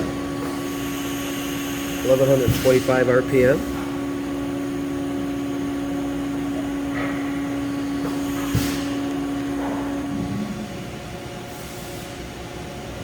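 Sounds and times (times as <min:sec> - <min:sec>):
machine spindle humming: 0:00.0 - 0:11.5.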